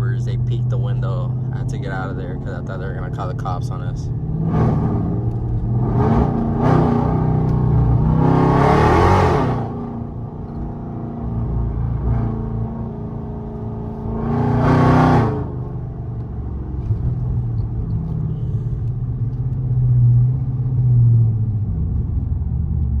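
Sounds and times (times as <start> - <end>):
car engine running while driving: 0.0 - 23.0.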